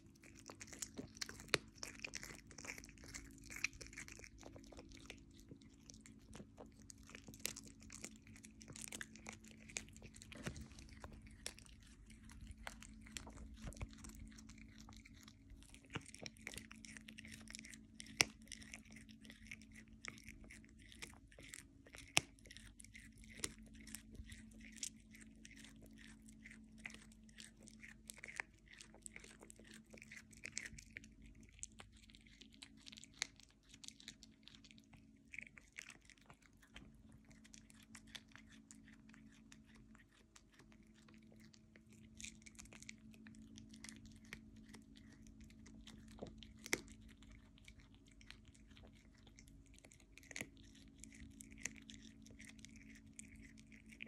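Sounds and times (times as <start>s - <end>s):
cat chewing and tearing meat: 0.0s - 54.0s
faint steady hum: 0.0s - 54.0s
teeth crunching and clicking: 0.0s - 54.0s.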